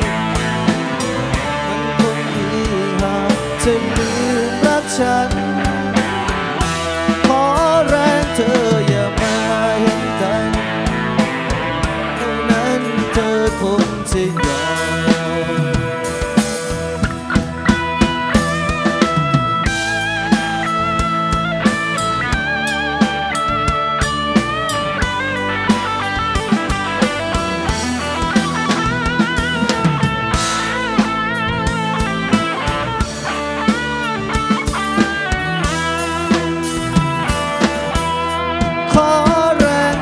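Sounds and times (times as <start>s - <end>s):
bass guitar: 0.0s - 40.0s
drum kit: 0.0s - 40.0s
lead guitar melody: 0.0s - 40.0s.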